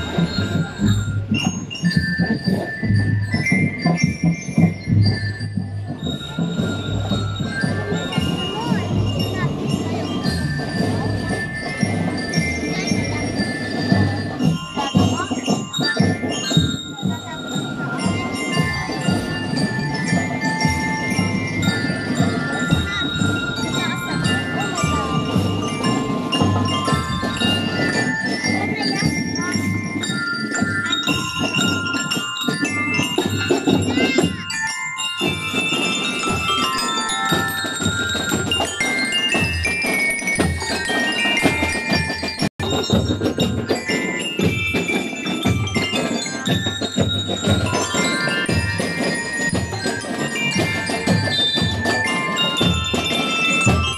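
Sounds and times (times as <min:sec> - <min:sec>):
bell lyres playing melody: 0:00.0 - 0:53.9
steady drum beat: 0:00.0 - 0:53.9.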